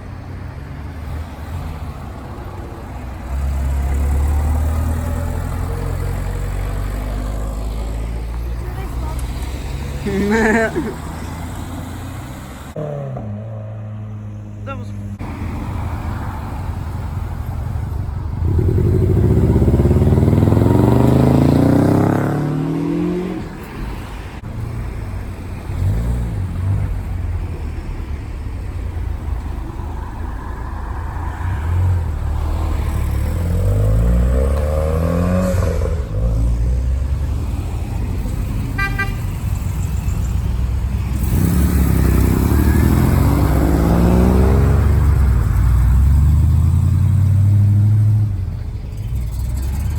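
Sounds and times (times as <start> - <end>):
cars driving past: 0.0 - 49.9.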